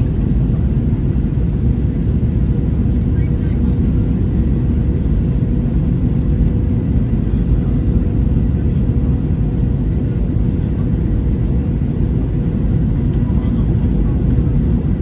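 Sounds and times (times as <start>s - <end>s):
jet airliner cabin rumble: 0.0s - 15.0s.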